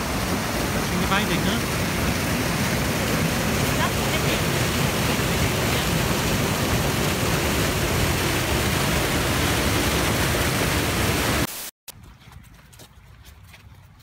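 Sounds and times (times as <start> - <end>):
rush of falling water: 0.0 - 11.7.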